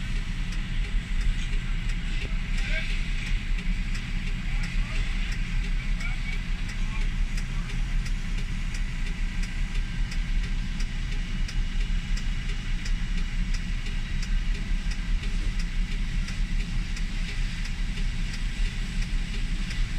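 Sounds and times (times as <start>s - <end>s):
faint regular ticking: 0.0s - 19.9s
vehicle engine idling: 0.0s - 19.9s.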